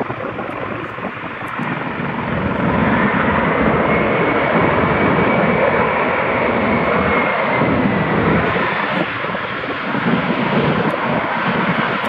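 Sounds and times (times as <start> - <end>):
helicopter rotor noise: 0.0 - 12.0
high engine whine: 0.0 - 12.0.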